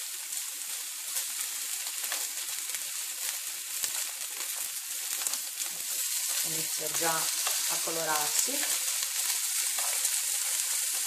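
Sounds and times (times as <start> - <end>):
meat frying with crackles and pops: 0.0 - 11.0.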